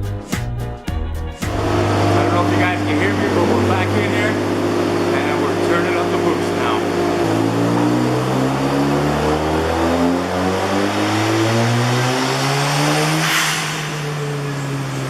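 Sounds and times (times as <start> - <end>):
car engine revving: 1.4 - 15.0.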